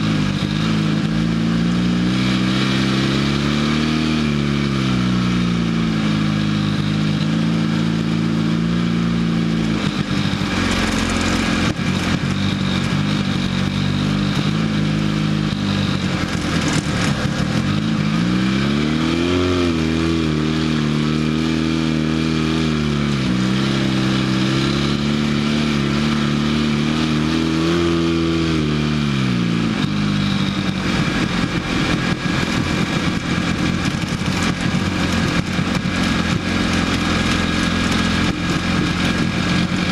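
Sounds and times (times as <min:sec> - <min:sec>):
off-road vehicle engine revving: 0:00.0 - 0:39.9
steady rush of noise: 0:00.0 - 0:39.9.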